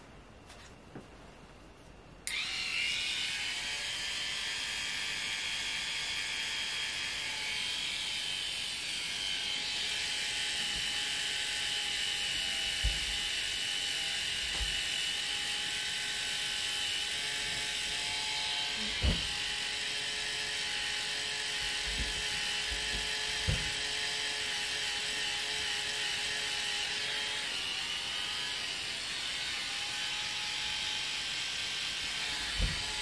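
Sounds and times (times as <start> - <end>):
tattoo pen buzzing: 2.3 - 33.0.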